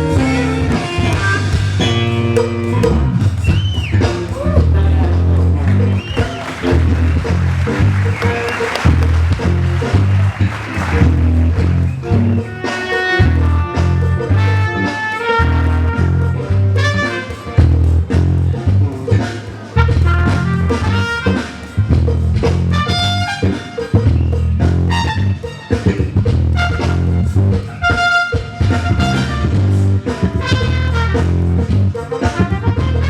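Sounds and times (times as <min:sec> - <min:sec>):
bass line: 0:00.0 - 0:33.0
live band funk groove: 0:00.0 - 0:33.0.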